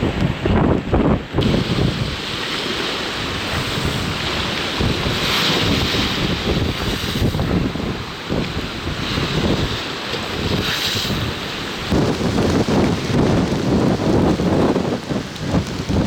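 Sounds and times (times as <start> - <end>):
storm surf washing ashore: 0.0 - 16.0
wind buffeting microphone: 0.0 - 16.0.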